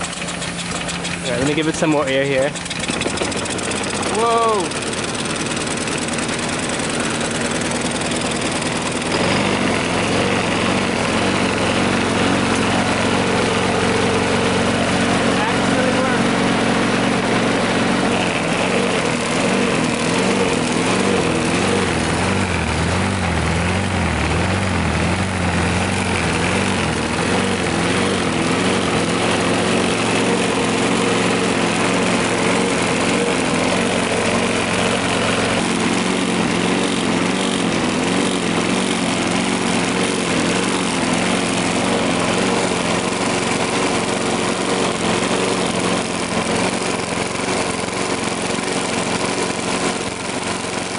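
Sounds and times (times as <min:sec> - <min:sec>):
lawn mower engine running: 0:00.0 - 0:50.9.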